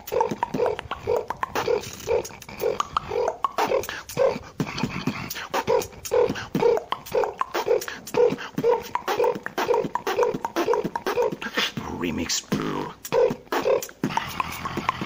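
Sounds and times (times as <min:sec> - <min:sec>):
mouth clicks: 0:00.0 - 0:15.0
person beatboxing: 0:00.0 - 0:15.0.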